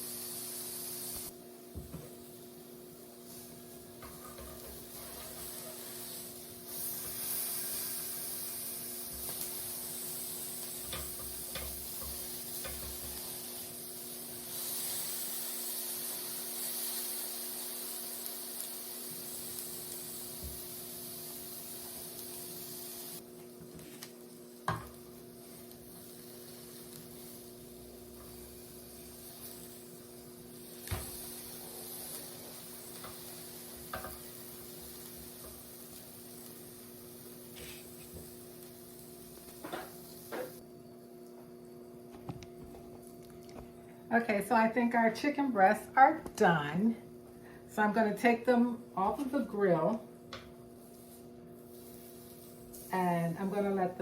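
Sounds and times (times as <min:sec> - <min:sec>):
meat sizzling on a grill: 0:00.0 - 0:40.6, 0:50.6 - 0:54.0.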